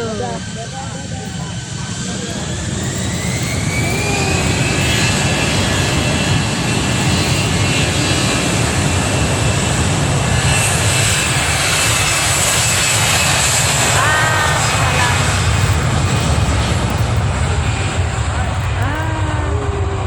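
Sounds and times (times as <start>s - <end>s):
airliner engines rumbling and whining: 0.0s - 20.0s.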